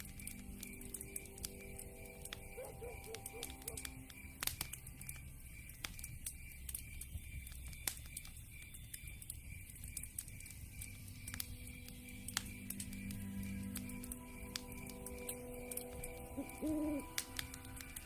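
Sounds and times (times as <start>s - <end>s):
fire pops and snaps: 0.0s - 18.0s
low rumble of burning logs: 0.0s - 18.0s.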